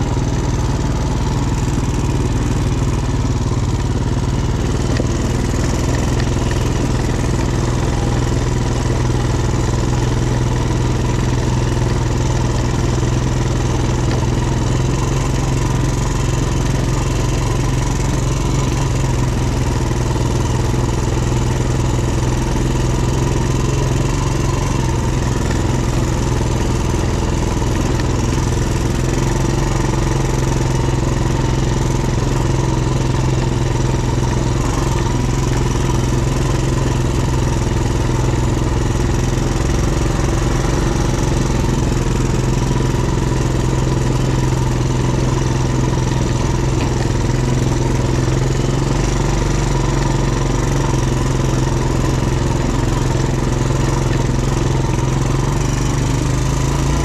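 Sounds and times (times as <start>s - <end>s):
atv engine running steadily: 0.0s - 57.0s.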